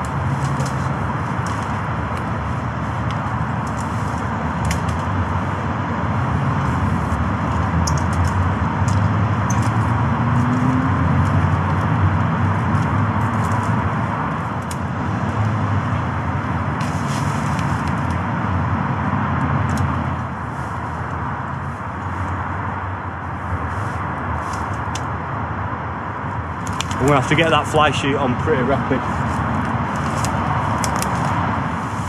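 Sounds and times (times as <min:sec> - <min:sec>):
tent poles and fabric rustling: 0:00.0 - 0:25.2, 0:26.4 - 0:32.0
heavy traffic noise: 0:00.0 - 0:32.0.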